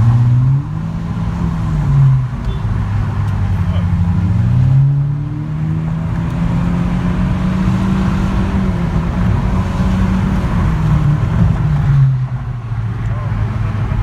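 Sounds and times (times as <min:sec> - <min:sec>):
car engine from inside cabin: 0:00.0 - 0:14.0
road noise rumble: 0:00.0 - 0:14.0.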